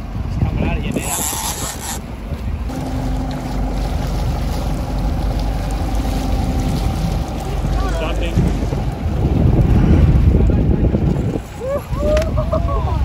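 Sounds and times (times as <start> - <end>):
wind and sea noise: 0.0 - 13.0
wind gust on microphone: 0.0 - 13.0
boat engine running: 0.6 - 11.6.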